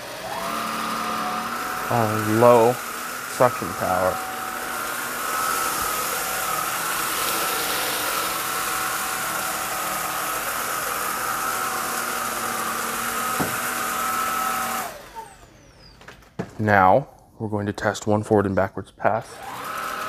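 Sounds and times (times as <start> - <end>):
vacuum cleaner motor whine: 0.0 - 16.2, 19.3 - 20.0.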